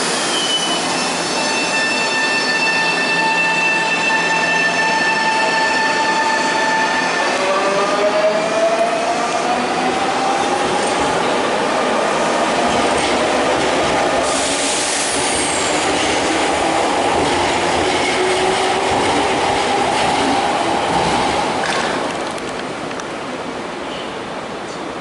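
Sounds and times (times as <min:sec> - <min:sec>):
train wheels rolling on rail: 0:00.0 - 0:23.5.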